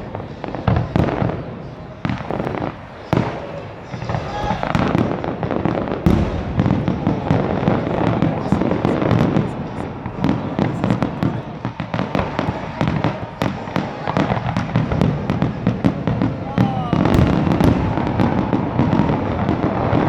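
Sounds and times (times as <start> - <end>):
fireworks booming and cracking: 0.0 - 20.0.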